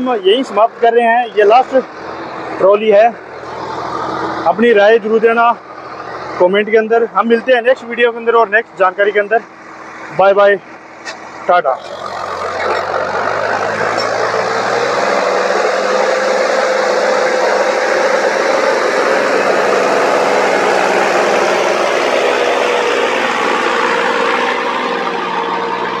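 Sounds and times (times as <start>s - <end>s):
continuous whine: 0.0s - 26.0s
tractor diesel engine running: 0.0s - 26.0s.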